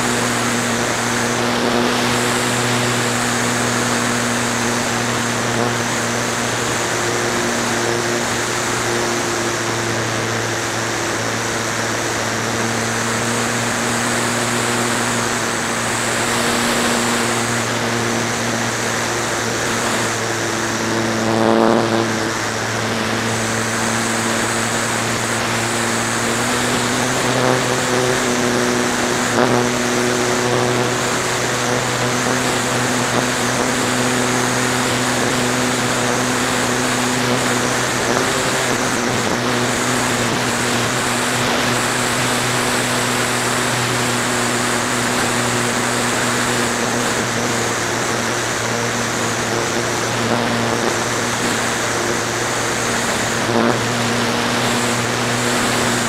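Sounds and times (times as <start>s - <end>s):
model plane motor droning: 0.0s - 56.0s.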